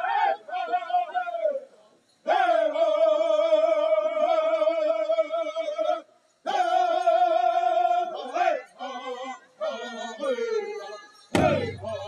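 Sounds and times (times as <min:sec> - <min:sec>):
men singing in unison: 0:00.0 - 0:12.0.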